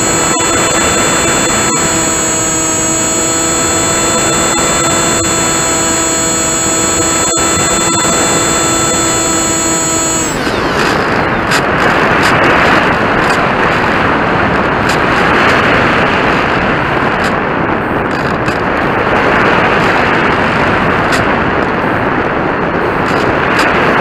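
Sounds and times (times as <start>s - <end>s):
model airplane motor whine: 0.0s - 24.0s.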